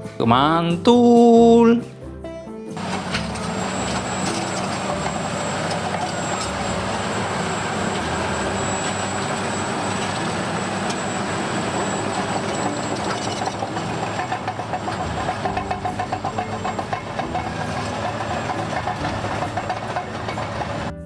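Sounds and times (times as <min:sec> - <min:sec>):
toy bulldozer rumbling: 0:02.8 - 0:21.0.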